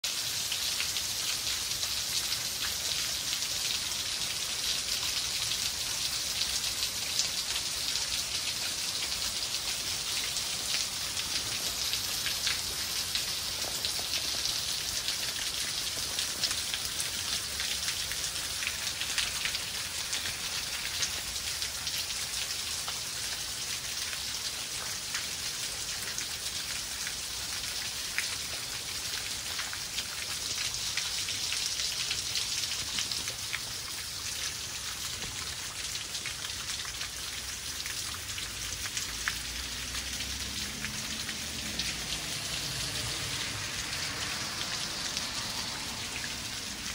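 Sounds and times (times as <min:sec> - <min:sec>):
steady rain hiss: 0:00.0 - 0:46.9
raindrops ticking: 0:00.1 - 0:46.9.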